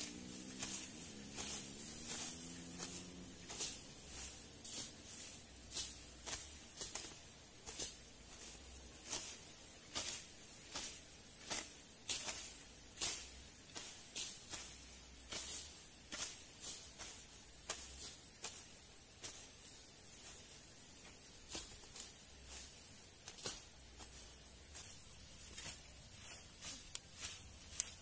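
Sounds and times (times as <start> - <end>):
blade slashing undergrowth: 0.0 - 28.0
steady high-pitched hiss: 0.0 - 28.0.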